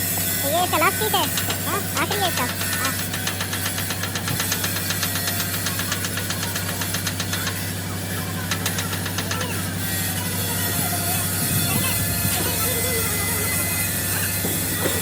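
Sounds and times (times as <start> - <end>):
diesel engine idling: 0.0 - 15.0
rapid knocking clatter: 0.6 - 15.0.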